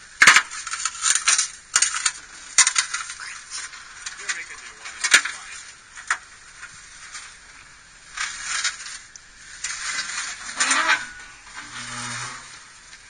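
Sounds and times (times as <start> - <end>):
tyres crunching over gravel: 0.0 - 13.0.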